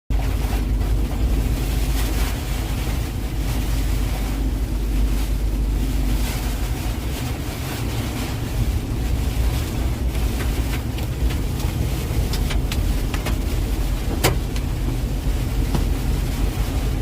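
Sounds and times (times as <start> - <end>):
rain: 0.1 - 17.0
truck engine and road rumble: 0.1 - 17.0
wind noise: 0.1 - 17.0.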